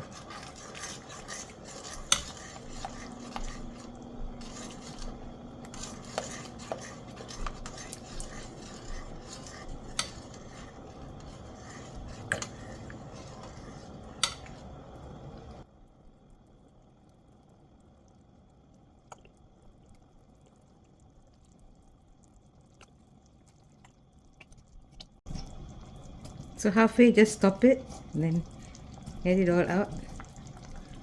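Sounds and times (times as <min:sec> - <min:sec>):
utensil stirring boiling sauce: 0:00.0 - 0:15.7, 0:19.1 - 0:31.0.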